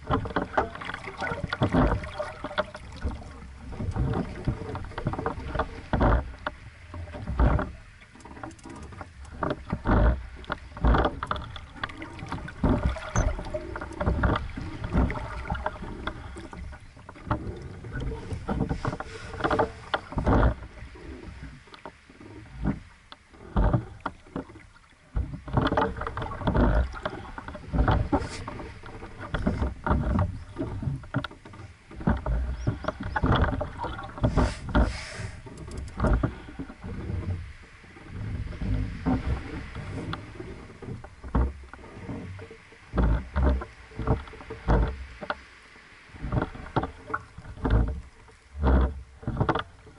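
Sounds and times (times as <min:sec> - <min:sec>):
low water wash: 0:00.0 - 0:49.9
waves slapping against hull: 0:00.0 - 0:49.9.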